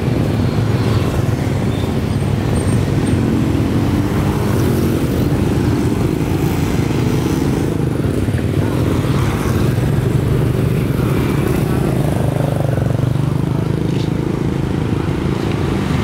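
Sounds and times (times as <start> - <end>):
motorcycles passing by: 0.0 - 16.0
traffic rumble: 0.0 - 16.0.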